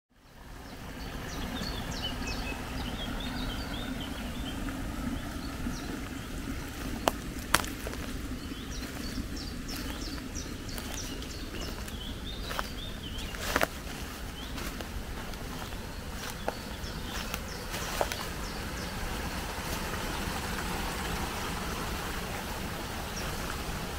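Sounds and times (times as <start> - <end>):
forest stream running: 0.1 - 23.9.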